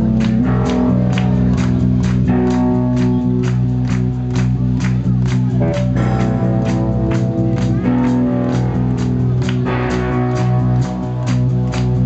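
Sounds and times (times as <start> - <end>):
guitars holding sustained notes: 0.0 - 12.0
live rock band playing: 0.0 - 12.0.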